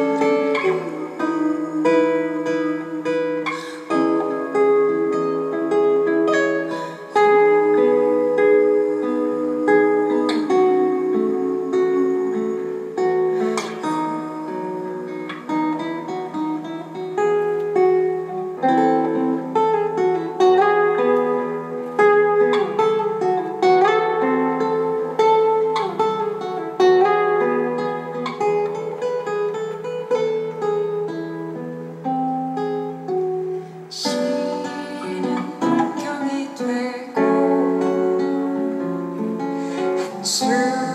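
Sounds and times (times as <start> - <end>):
guitar playing plucked passage: 0.0 - 40.9.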